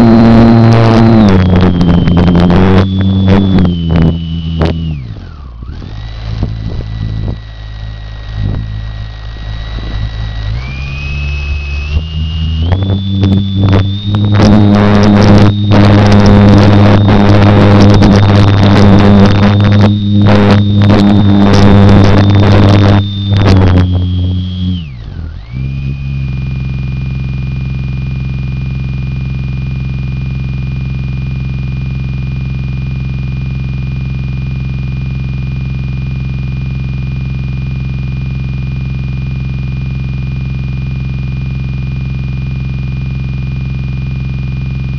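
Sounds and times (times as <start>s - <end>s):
model plane motor whining: 0.0s - 44.9s
steady high hum: 0.0s - 44.9s.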